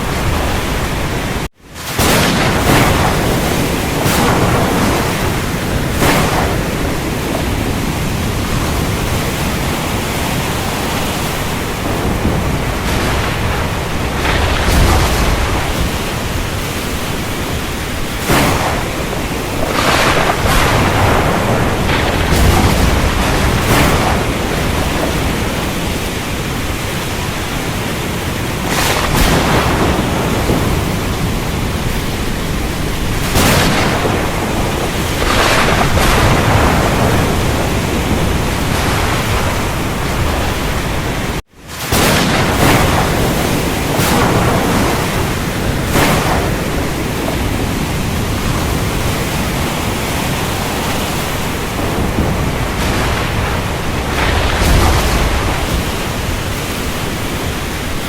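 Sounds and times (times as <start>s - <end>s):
heavy rain: 0.0s - 58.0s
low rumbling thunder: 0.0s - 58.0s.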